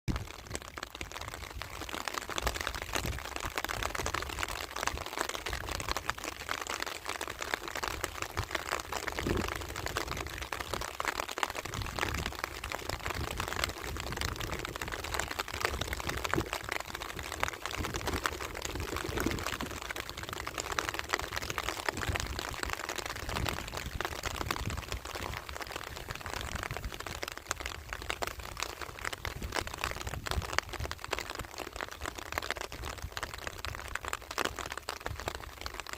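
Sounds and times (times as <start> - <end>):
steady rain falling: 0.1 - 35.9.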